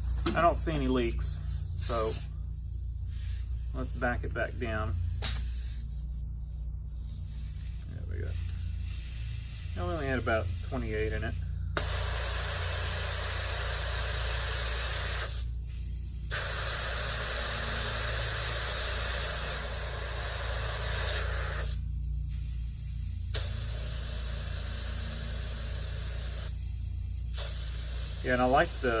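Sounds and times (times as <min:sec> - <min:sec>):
steady low hum: 0:00.0 - 0:29.0
air hissing out of tyre: 0:00.8 - 0:29.0.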